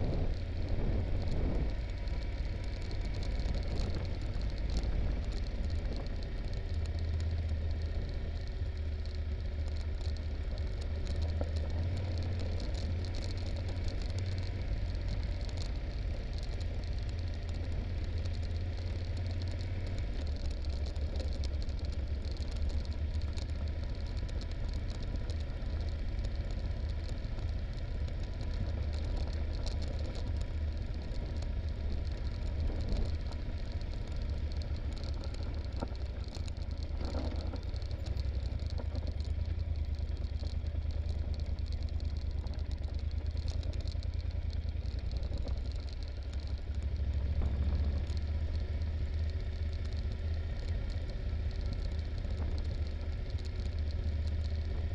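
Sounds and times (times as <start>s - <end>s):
motorcycle engine running low: 0.0s - 54.9s
rattling over gravel: 0.0s - 54.9s.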